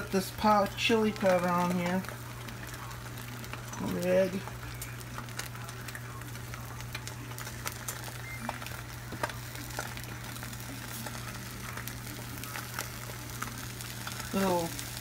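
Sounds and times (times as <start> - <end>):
eggs sizzling in skillet: 0.0 - 15.0
small pops and crackles: 0.0 - 15.0.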